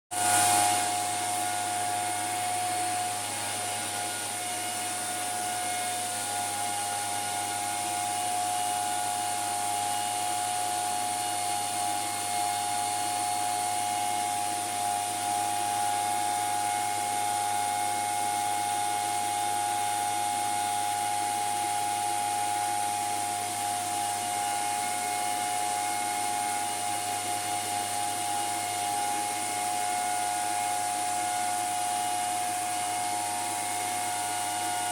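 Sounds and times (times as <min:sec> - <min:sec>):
steady mid-range whine: 0:00.2 - 0:34.9.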